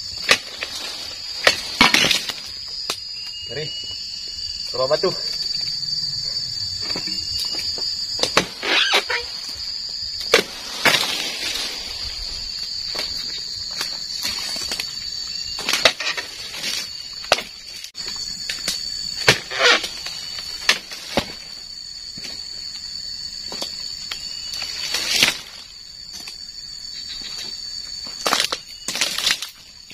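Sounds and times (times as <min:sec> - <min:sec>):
rustle of leaves: 0:00.0 - 0:03.8, 0:08.5 - 0:29.9
high-pitched insect drone: 0:00.0 - 0:29.9.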